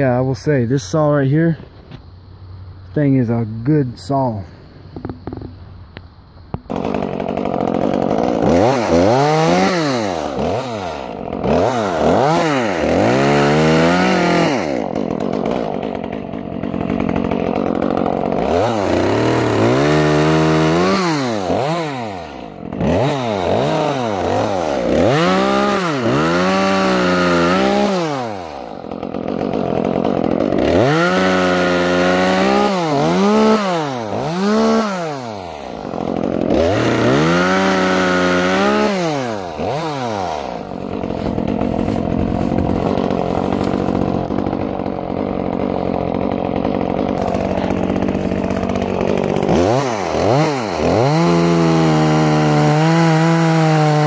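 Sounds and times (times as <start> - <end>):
chainsaw revving: 6.6 - 54.0.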